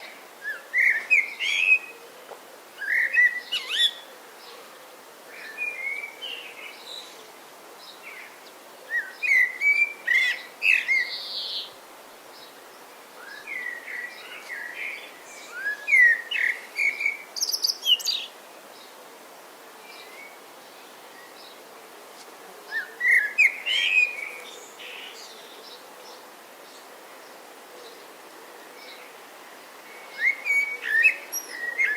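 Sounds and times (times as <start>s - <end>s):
songbirds singing: 0.0s - 19.2s, 19.8s - 31.9s.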